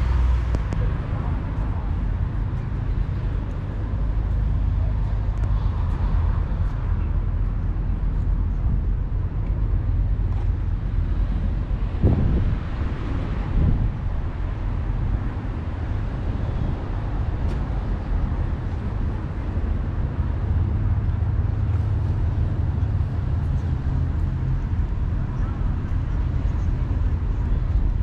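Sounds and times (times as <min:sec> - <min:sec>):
passing traffic rumble: 0:00.0 - 0:28.0.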